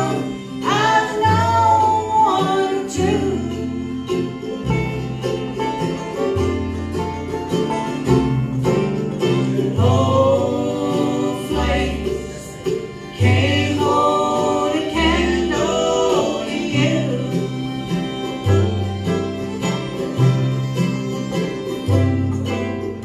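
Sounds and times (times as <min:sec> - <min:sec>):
banjo: 0:00.0 - 0:23.0
fiddle: 0:00.0 - 0:23.0
guitar: 0:00.0 - 0:23.0
mandolin: 0:00.0 - 0:23.0
upright bass: 0:00.0 - 0:23.0.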